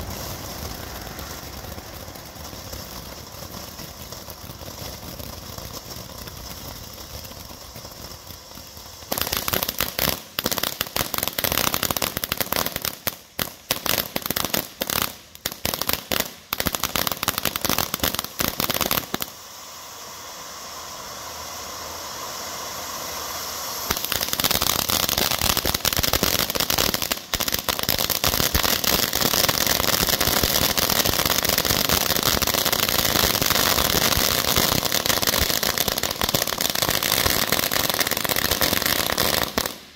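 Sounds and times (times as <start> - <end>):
firework fountain hissing: 0.0 - 39.9
firework loud rapid crackling: 0.0 - 39.9.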